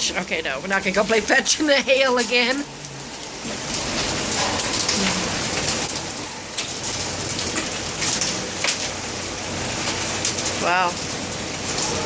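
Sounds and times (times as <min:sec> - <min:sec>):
hail and heavy rain: 0:00.0 - 0:12.0.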